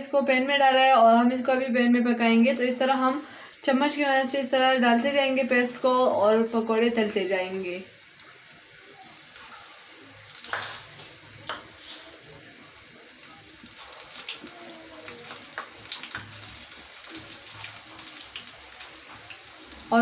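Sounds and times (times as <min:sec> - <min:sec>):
batter deep-frying in hot oil: 0:00.5 - 0:20.0.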